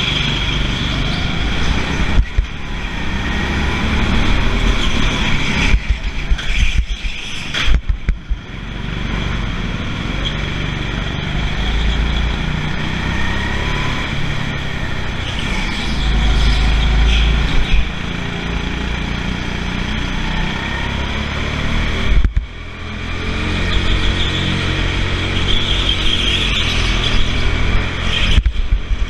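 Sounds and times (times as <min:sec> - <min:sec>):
go-kart engine droning: 0:00.0 - 0:29.0.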